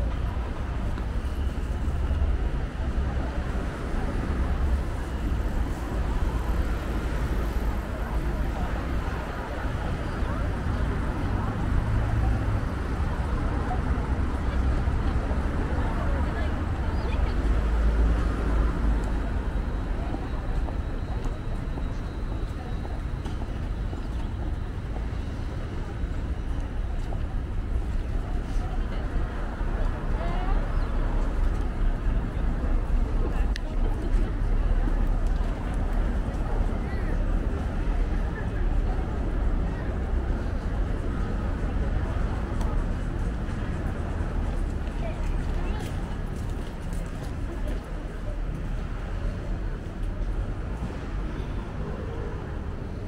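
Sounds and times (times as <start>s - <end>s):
chatter of passers-by: 0.0s - 53.0s
traffic noise: 0.0s - 53.0s.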